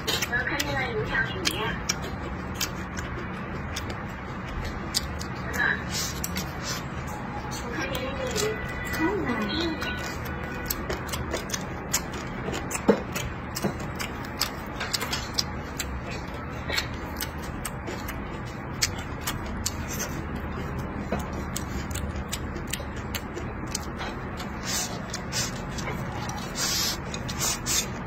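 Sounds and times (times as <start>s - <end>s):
person chewing with wet mouth clicks: 0.0s - 6.8s, 9.9s - 28.0s.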